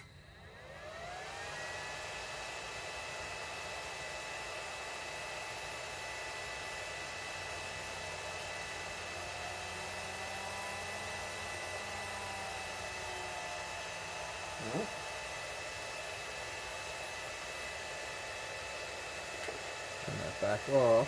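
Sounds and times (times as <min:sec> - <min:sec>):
compressor motor humming: 0:00.0 - 0:21.0.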